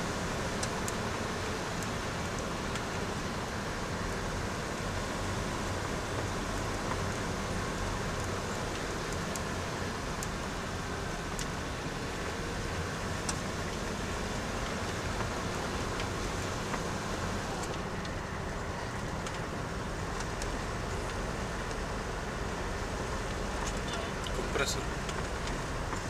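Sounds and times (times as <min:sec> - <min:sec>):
car engine drone: 0:00.0 - 0:26.0
tyre and road noise: 0:00.0 - 0:26.0.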